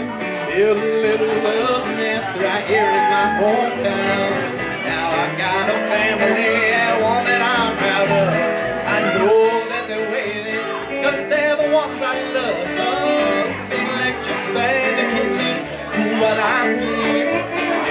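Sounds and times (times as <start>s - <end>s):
bending guitar lead line: 0.0s - 17.9s
electric and acoustic guitars: 0.0s - 17.9s
plucked upright bass: 0.0s - 17.9s.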